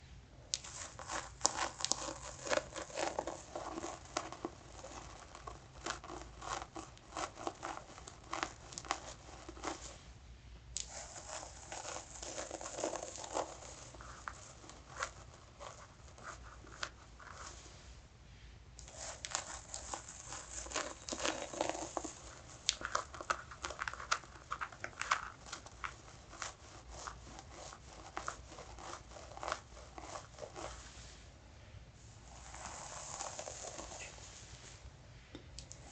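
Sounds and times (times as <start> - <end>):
fingernails scratching through hair: 0.5 - 10.0, 10.8 - 17.8, 18.8 - 31.2, 32.2 - 34.7.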